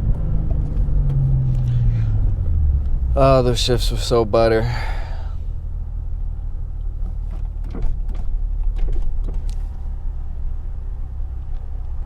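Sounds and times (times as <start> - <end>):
car exhaust low drone: 0.0 - 12.0.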